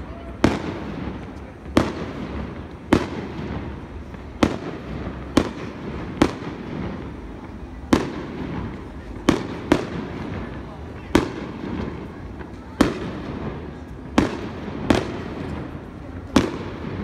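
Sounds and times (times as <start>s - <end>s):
fireworks bursting with echo: 0.0s - 17.0s.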